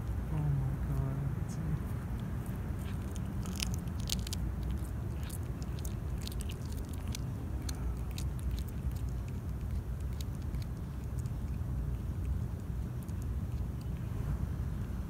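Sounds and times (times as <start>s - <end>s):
cat chewing with wet crunches: 1.6s - 15.0s.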